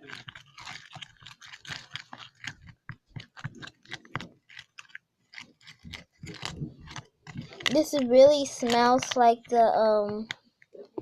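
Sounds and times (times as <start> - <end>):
stirrer scraping a container: 0.0 - 10.5.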